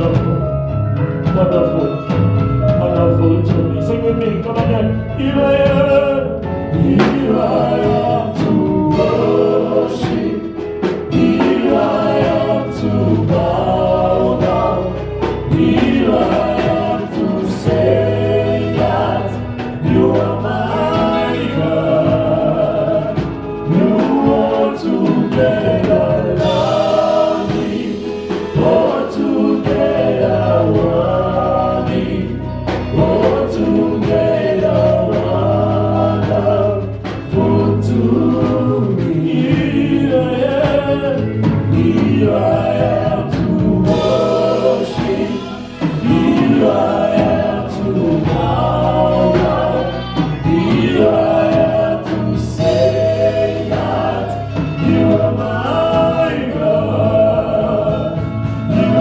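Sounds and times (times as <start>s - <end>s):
bass notes: 0.0s - 59.0s
choir singing: 0.0s - 59.0s
drum hits: 0.0s - 59.0s.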